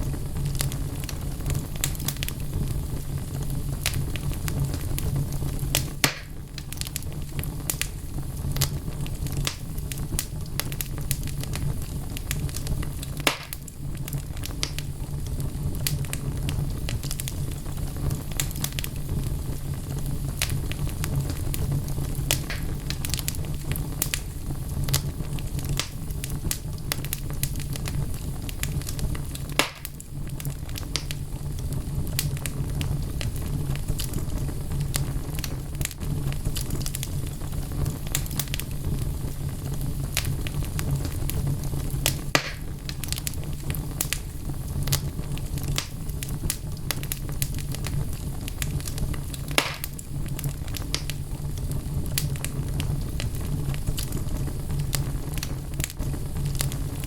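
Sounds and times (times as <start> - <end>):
burning logs crackling and popping: 0.0 - 57.0
low rumble of flame: 0.0 - 57.0.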